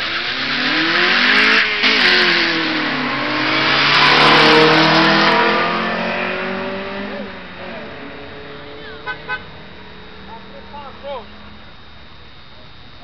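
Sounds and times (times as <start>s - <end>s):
race cars accelerating: 0.0s - 13.0s.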